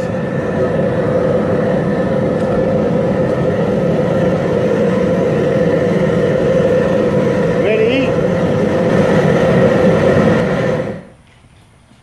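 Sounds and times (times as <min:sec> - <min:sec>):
propane burner roaring: 0:00.0 - 0:12.0.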